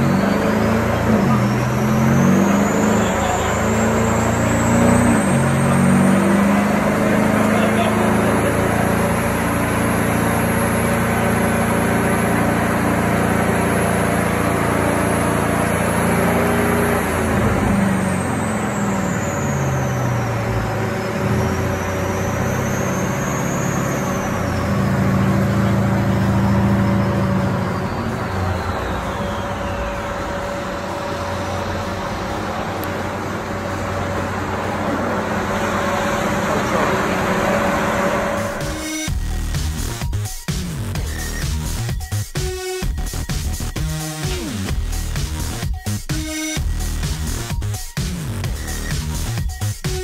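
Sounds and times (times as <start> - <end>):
car engine revving on dyno: 0.0 - 50.0.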